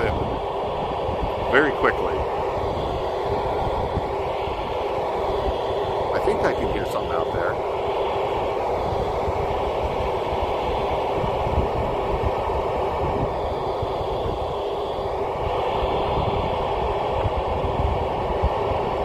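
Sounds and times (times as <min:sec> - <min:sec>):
radio static hiss: 0:00.0 - 0:19.0
wind buffeting microphone: 0:00.0 - 0:19.0.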